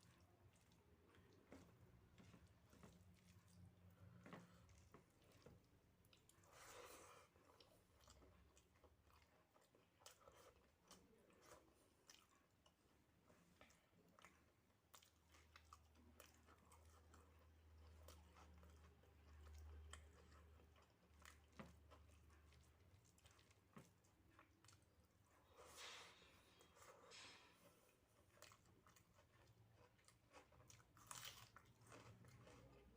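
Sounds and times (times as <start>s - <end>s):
chewing soft food: 0.0s - 32.9s.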